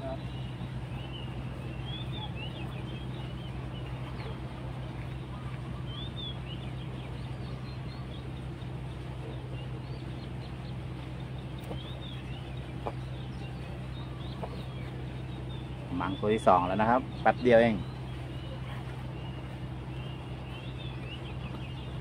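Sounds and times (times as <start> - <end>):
small birds chirping: 0.0 - 22.0
steady low hum: 0.0 - 22.0.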